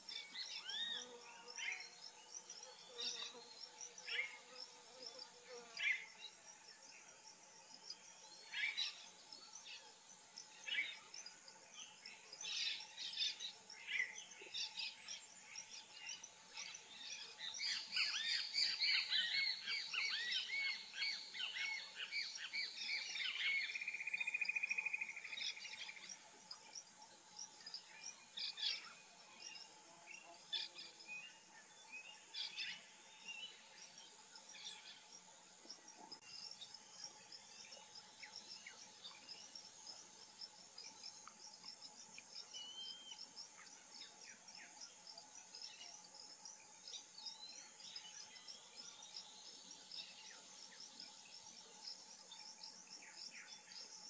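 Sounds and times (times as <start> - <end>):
steady high insect drone: 0.0 - 54.0.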